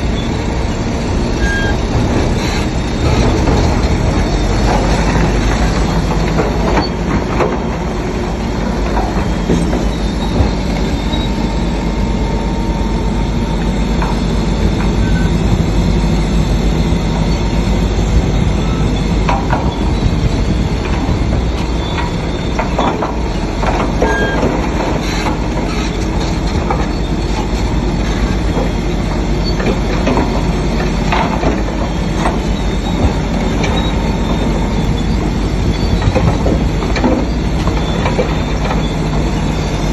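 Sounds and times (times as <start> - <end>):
bulldozer diesel engine running: 0.0 - 39.9
steel tracks squealing and clanking: 0.0 - 39.9.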